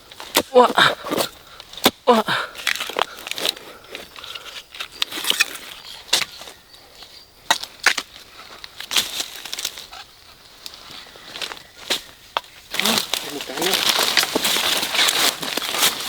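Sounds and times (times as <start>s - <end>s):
leaves and twigs rustling: 0.0s - 16.0s
twigs snapping: 0.1s - 6.4s, 7.5s - 10.0s, 10.6s - 16.0s.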